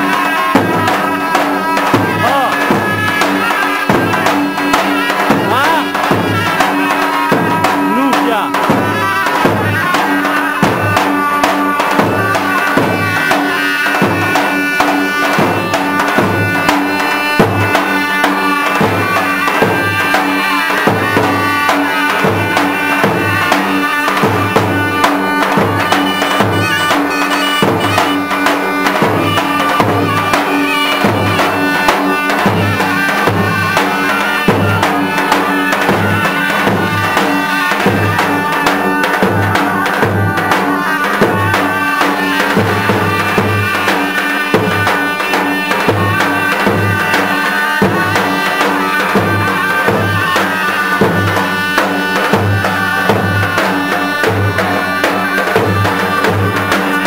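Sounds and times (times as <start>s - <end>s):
drums beating a steady rhythm: 0.0s - 57.0s
reedy wind instrument melody: 0.0s - 57.0s.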